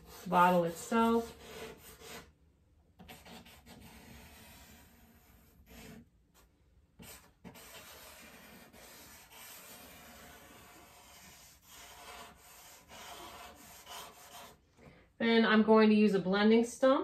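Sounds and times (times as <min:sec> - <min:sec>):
charcoal scratching on paper: 0:00.0 - 0:02.4, 0:03.0 - 0:14.6.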